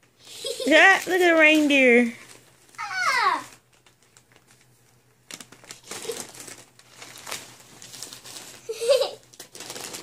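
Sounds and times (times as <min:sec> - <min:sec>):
wrapping paper crinkling and tearing: 0:00.3 - 0:10.0.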